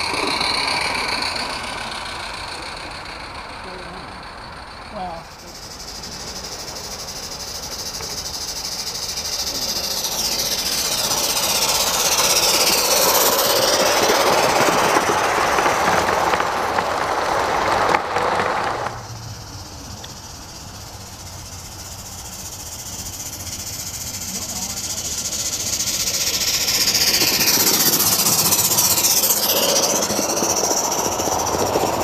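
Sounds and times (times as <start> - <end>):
steam hissing: 0.0 - 32.0
train wheels clattering on rails: 0.0 - 32.0.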